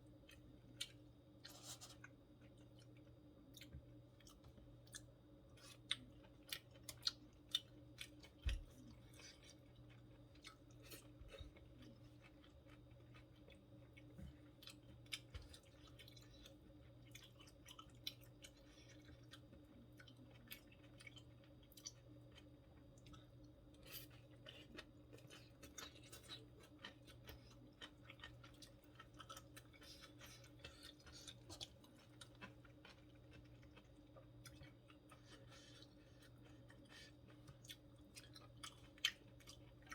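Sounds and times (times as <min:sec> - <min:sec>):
faint steady hum: 0:00.0 - 0:39.9
person chewing food: 0:00.0 - 0:39.9.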